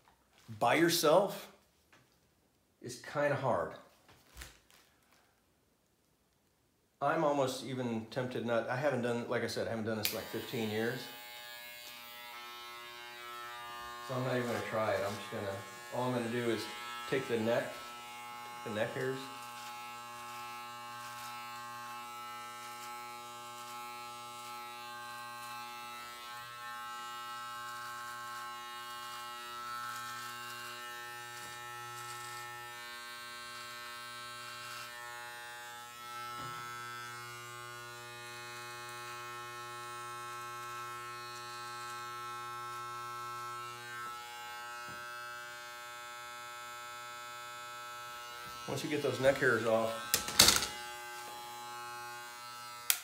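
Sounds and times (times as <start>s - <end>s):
electric hair clippers buzzing: 10.0s - 53.0s.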